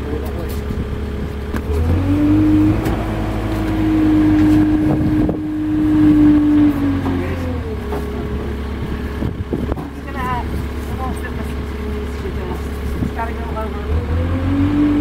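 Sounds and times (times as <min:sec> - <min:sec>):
hydraulics lifting bucket: 0:00.0 - 0:15.0
tractor engine revving: 0:00.0 - 0:15.0.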